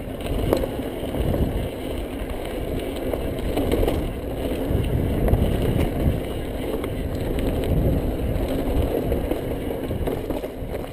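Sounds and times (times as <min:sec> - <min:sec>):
bike rattling over bumps: 0:00.0 - 0:10.9
bike tyres rumbling on gravel: 0:00.0 - 0:10.9.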